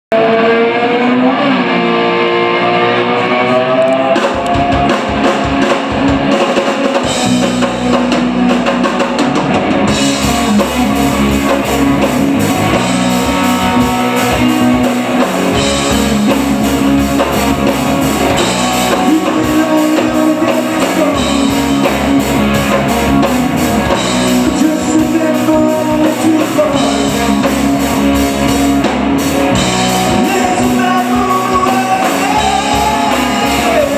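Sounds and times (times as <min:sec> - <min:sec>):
electric guitar bending notes: 0:00.1 - 0:33.9
rock band playing: 0:00.1 - 0:33.9
drums: 0:00.2 - 0:33.9.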